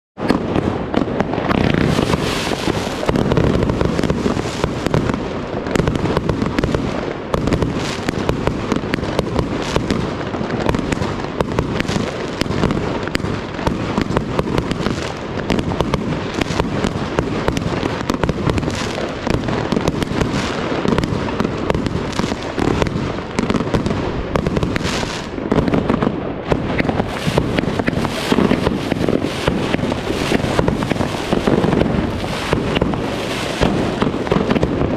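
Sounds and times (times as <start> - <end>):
fireworks thumps and crackling bursts: 0.2 - 34.9.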